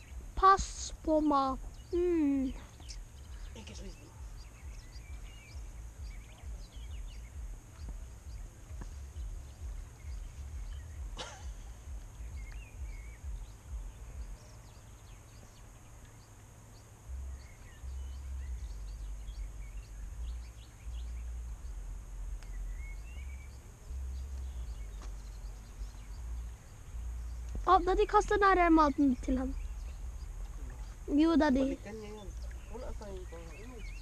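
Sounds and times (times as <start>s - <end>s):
faint bird chirps: 0.0s - 34.0s.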